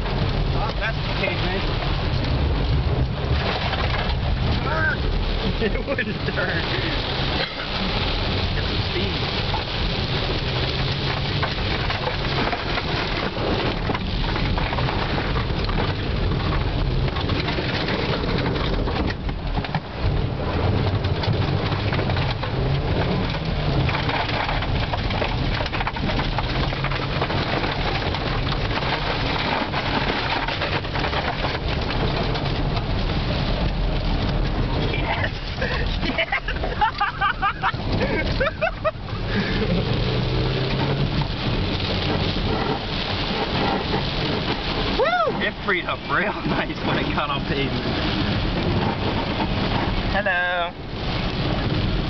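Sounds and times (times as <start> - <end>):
car engine pulling hard: 0.0 - 52.0
tyres crunching over wet gravel: 0.0 - 52.0
water pelting car: 0.0 - 52.0.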